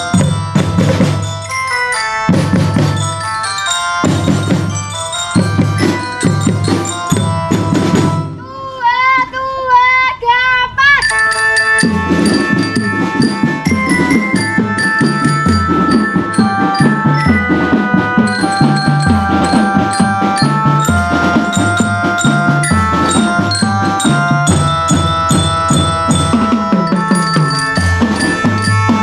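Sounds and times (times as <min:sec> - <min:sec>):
marching drums: 0:00.0 - 0:08.4, 0:11.3 - 0:29.0
mallet instrument melody: 0:00.0 - 0:08.5, 0:11.0 - 0:29.0
wavering high tone: 0:00.0 - 0:08.6, 0:10.8 - 0:29.0.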